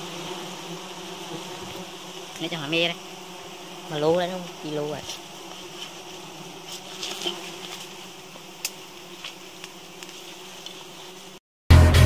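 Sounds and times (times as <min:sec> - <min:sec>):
bees buzzing: 0:00.0 - 0:11.4.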